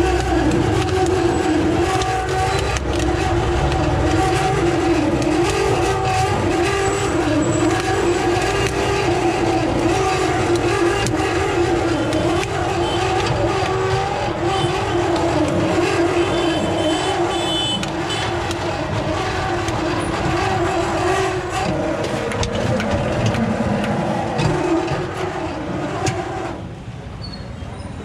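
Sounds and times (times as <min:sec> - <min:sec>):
sharp clicks and taps: 0:00.0 - 0:16.2, 0:17.1 - 0:25.2
traffic engines humming: 0:00.0 - 0:28.0.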